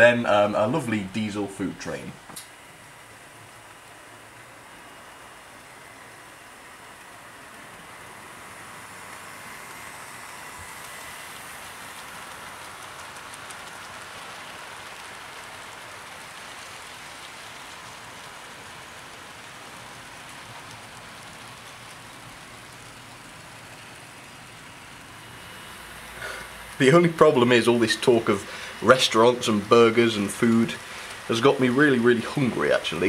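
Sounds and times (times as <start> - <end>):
faint motor whine: 0.0 - 33.0
model train wheels rattling on rails: 5.0 - 33.0.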